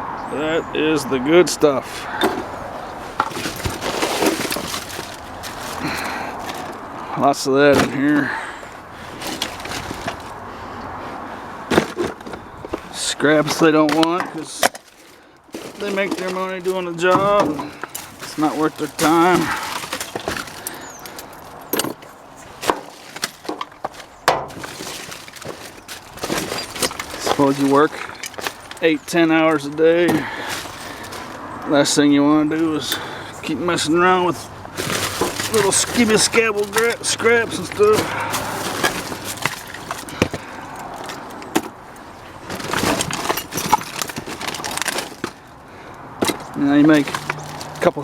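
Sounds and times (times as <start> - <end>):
rustling: 1.7 - 31.7, 32.5 - 48.0
scrap clinking and knocking: 1.8 - 7.0, 7.6 - 10.4, 11.7 - 31.7, 33.8 - 45.6, 46.2 - 48.0.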